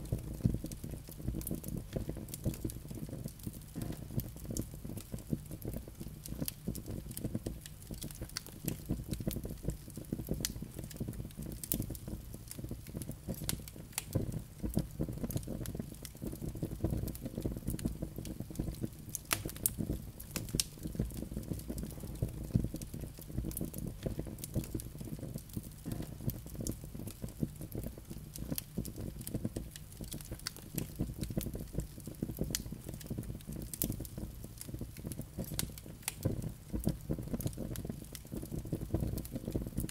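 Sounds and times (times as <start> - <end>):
logs crackling and popping: 0.0 - 39.9
low rush of flames: 0.0 - 39.9.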